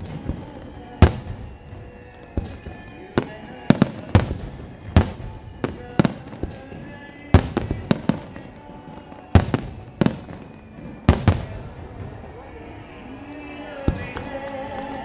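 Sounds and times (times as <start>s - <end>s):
fireworks shells bursting: 0.0s - 12.3s.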